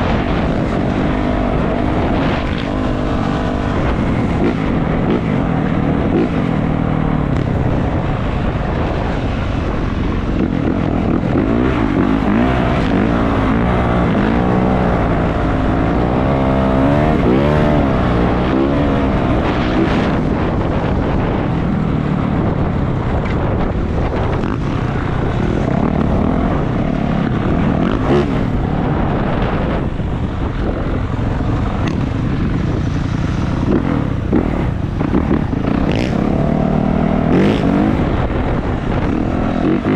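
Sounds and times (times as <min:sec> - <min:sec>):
dirt bike engine revving: 0:00.0 - 0:21.4, 0:22.4 - 0:30.5, 0:31.4 - 0:39.9
steady rush of noise: 0:00.0 - 0:39.9.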